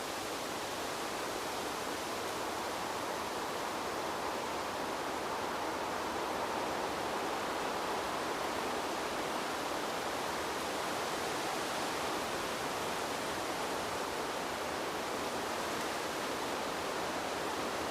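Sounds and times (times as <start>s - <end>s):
steady wind hiss: 0.0s - 17.9s.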